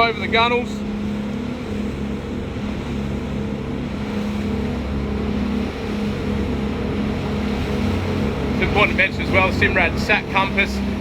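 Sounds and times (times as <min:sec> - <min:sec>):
outboard engine drone: 0:00.0 - 0:11.0
water rushing: 0:00.0 - 0:11.0
wind: 0:00.0 - 0:11.0.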